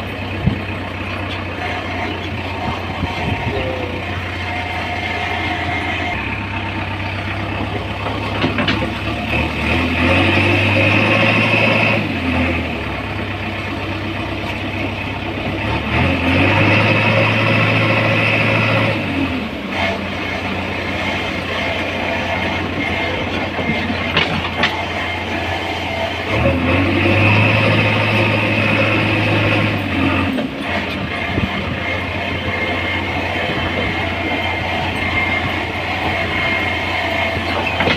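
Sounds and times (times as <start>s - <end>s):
diesel engine revving: 0.0s - 37.9s.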